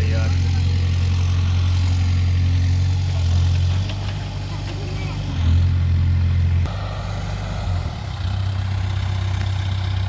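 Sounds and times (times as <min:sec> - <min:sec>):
diesel engine droning: 0:00.0 - 0:10.0.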